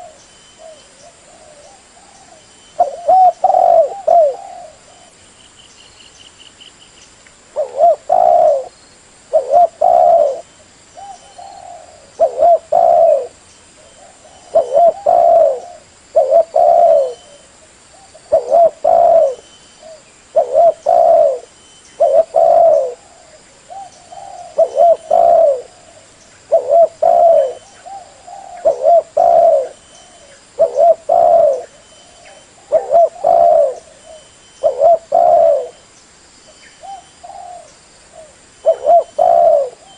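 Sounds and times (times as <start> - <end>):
dove cooing: 0.0 - 5.2, 7.6 - 35.8, 36.8 - 39.9.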